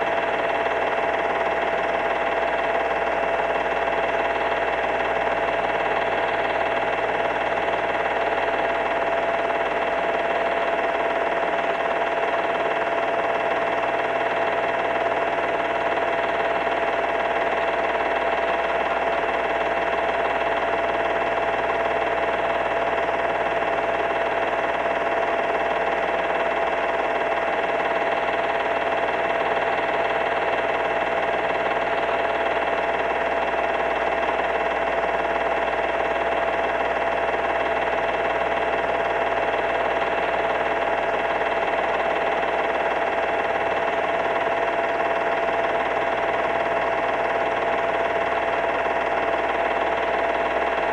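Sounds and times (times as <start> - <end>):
film projector motor whine: 0.0 - 50.9.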